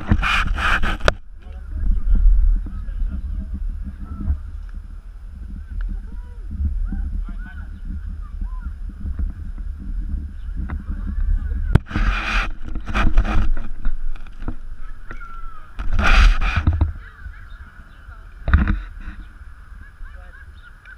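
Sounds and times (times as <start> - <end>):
wind rumbling on microphone: 0.0 - 20.9.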